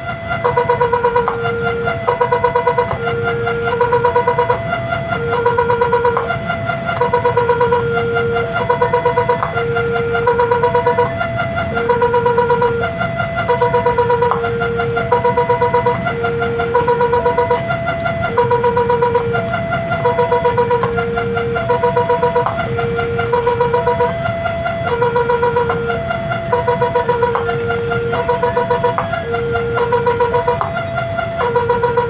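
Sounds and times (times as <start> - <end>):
electronic warning siren beeps: 0.0 - 32.0
road traffic rumbling: 0.0 - 32.0.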